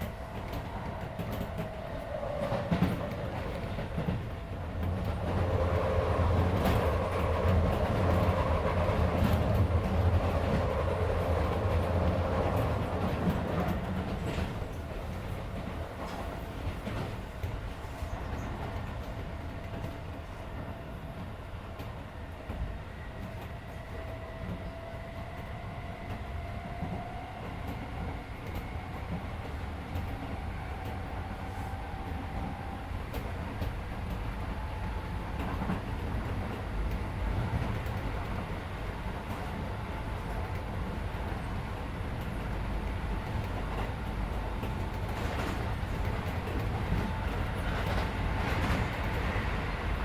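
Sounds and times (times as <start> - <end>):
train motors and wheels humming: 0.0 - 50.0.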